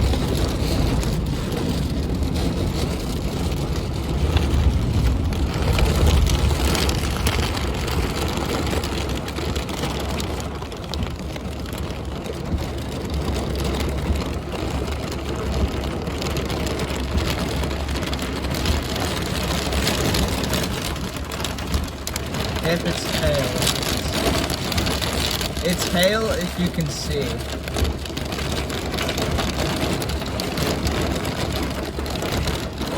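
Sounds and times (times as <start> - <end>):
heavy rain pouring: 0.0 - 32.9
wind rumbling on microphone: 0.0 - 32.9.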